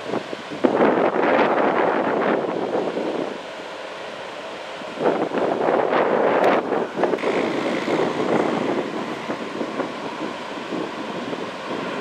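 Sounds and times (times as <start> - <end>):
wind buffeting microphone: 0.0 - 3.4, 4.8 - 12.0.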